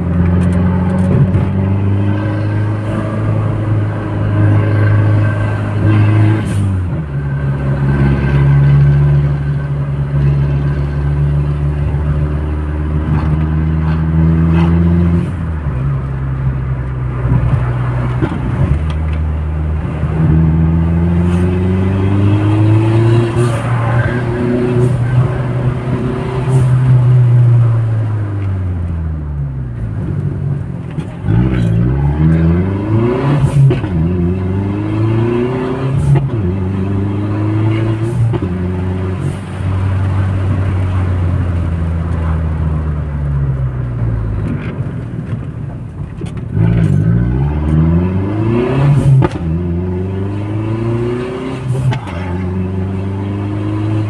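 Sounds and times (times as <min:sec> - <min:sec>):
car engine revving through gears: 0:00.0 - 0:16.2, 0:16.8 - 0:42.9, 0:46.2 - 0:54.0.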